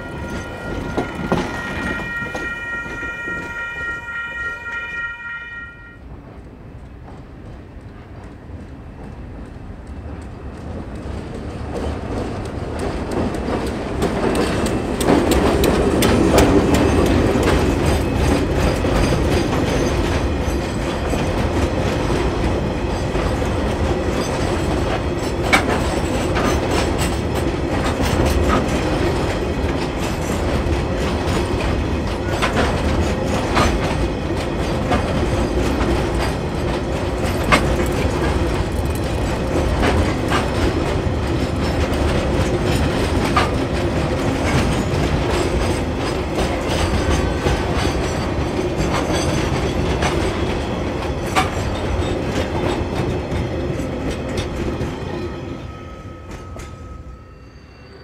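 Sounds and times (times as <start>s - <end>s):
freight train wagons rumbling: 0.0s - 57.2s
wheels clicking over rail joints: 6.2s - 55.0s.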